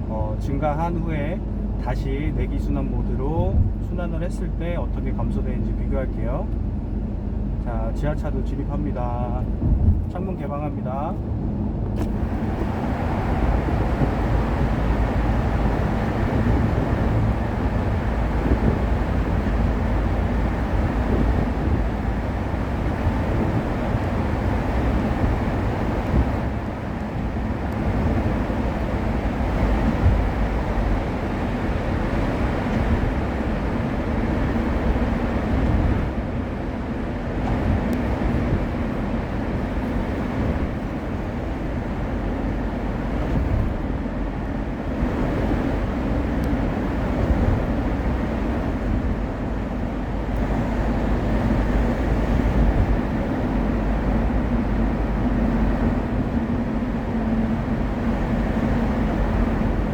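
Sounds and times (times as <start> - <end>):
tyre and engine noise: 0.0 - 59.9
wind through open car windows: 0.0 - 59.9.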